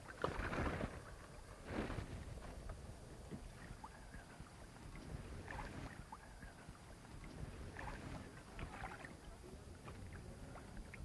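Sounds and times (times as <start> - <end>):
water lapping against boat hull: 0.0 - 11.0
wind rumble on microphone: 0.0 - 11.0.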